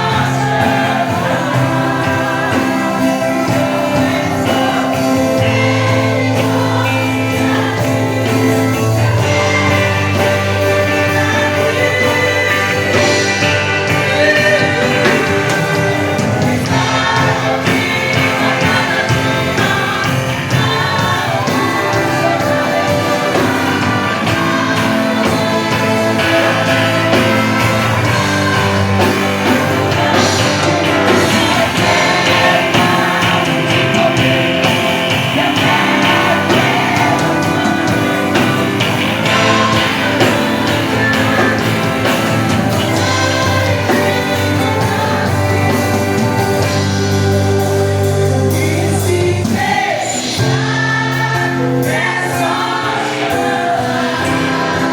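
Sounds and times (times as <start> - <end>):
gospel singing with band: 0.0 - 54.9.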